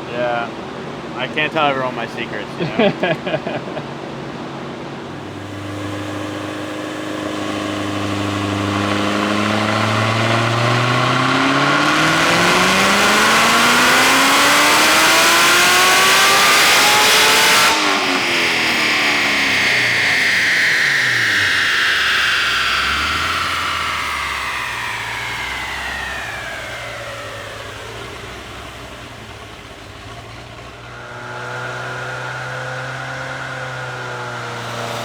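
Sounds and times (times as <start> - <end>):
supercharger whine: 0.0 - 35.0
engine revving on a dyno: 5.1 - 35.0.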